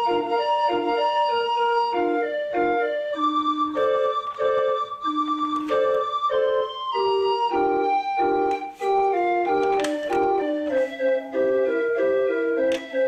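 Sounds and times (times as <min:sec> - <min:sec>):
organ-like keyboard music: 0:00.0 - 0:13.0.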